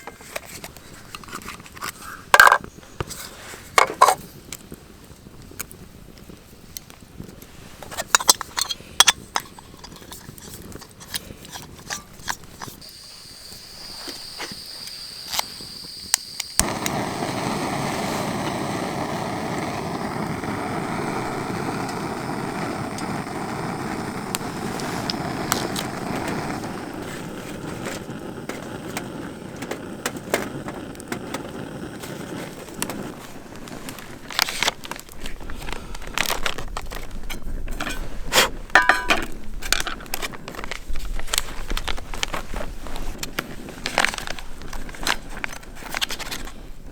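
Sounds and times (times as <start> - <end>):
campfire crackling: 0.8 - 46.9
sharp pops of fire: 2.3 - 46.8.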